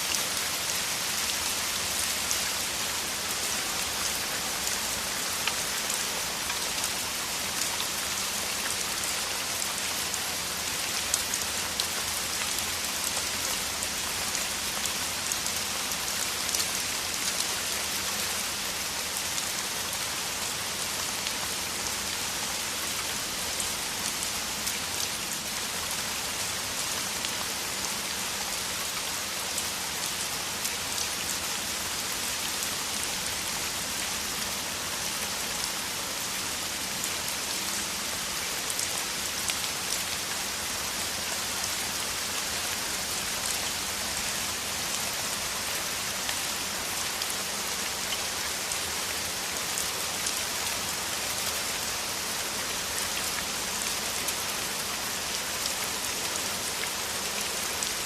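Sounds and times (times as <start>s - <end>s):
heavy rain patter: 0.0s - 58.0s.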